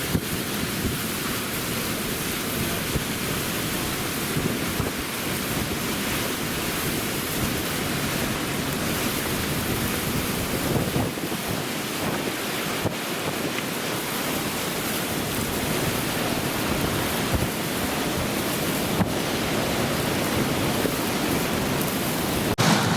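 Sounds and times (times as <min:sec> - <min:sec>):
strong wind buffeting microphone: 0:00.0 - 0:22.9.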